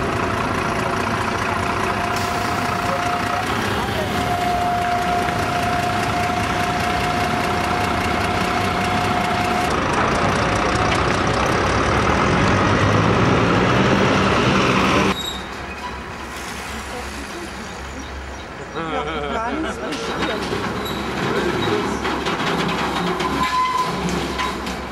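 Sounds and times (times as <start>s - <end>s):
distant traffic: 0.0s - 24.9s
road traffic engines: 0.0s - 24.9s.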